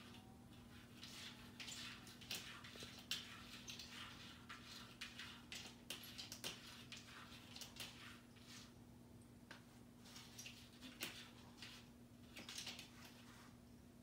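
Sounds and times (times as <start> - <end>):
cat claws scratching plastic: 0.0 - 8.7, 10.0 - 13.2
faint low hum: 0.0 - 14.0.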